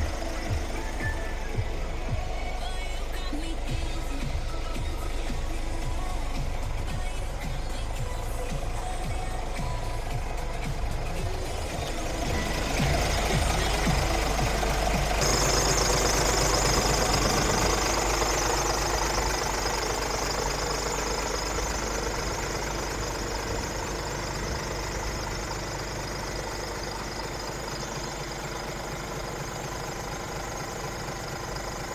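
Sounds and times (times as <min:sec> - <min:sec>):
truck diesel engine running: 0:00.0 - 0:31.9.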